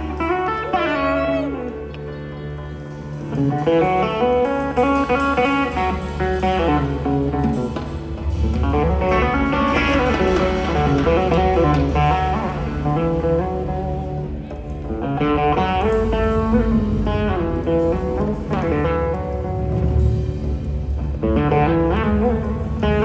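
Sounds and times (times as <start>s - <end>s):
bass guitar: 0.0s - 23.0s
electric guitar lead line: 0.0s - 23.0s.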